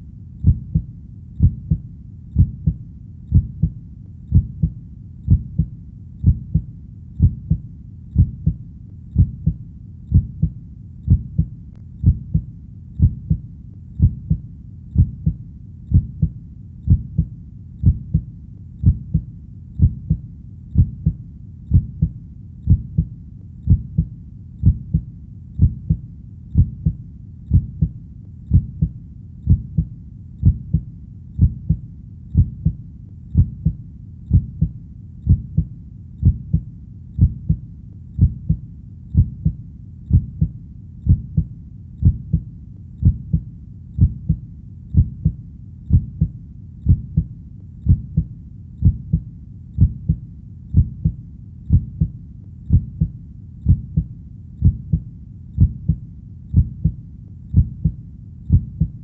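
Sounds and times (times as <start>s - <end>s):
heartbeat low thumps: 0.0s - 59.0s.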